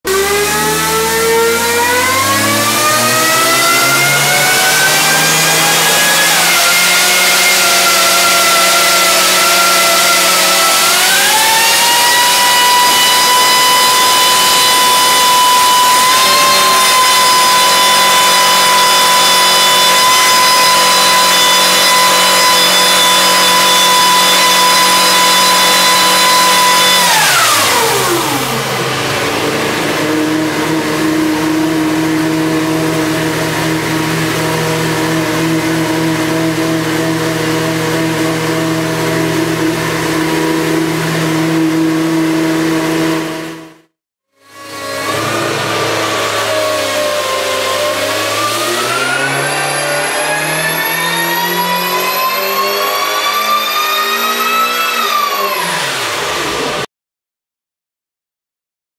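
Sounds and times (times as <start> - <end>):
car engine revving on dyno: 0.0 - 56.9.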